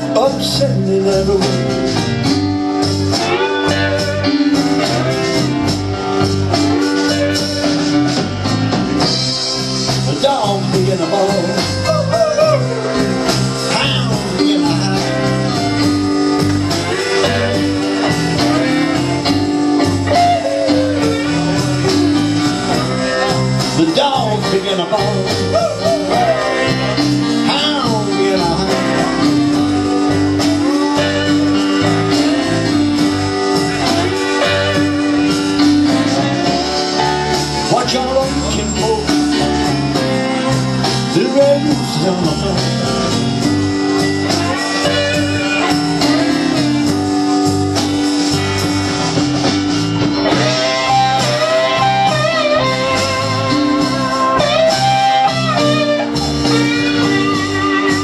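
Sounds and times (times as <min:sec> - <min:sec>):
electric lead guitar bent notes: 0:00.0 - 0:58.0
live blues band playing: 0:00.0 - 0:58.0.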